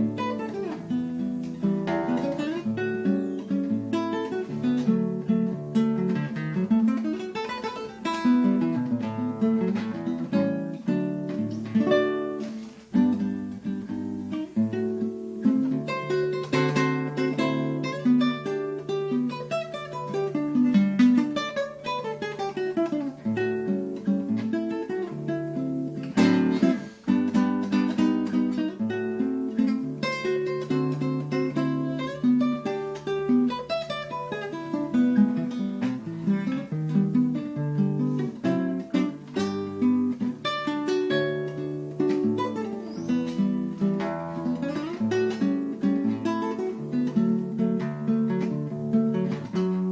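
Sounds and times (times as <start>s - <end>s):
acoustic guitar playing: 0.0s - 49.9s.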